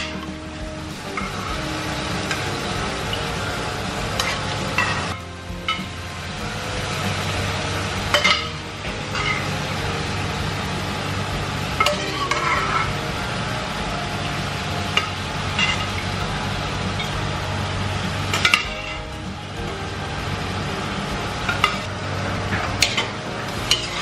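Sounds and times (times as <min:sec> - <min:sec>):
meat sizzling in a wok: 0:00.0 - 0:24.0.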